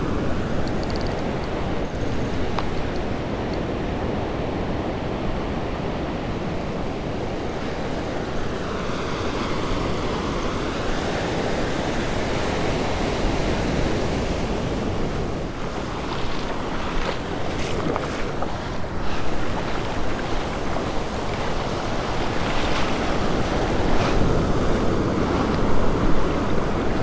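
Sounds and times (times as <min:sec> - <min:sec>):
ocean surf breaking on beach: 0:01.3 - 0:27.0.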